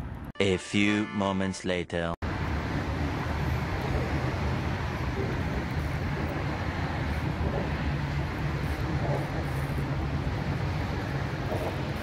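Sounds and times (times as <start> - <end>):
road traffic rumble: 0.0 - 0.3, 2.2 - 12.0.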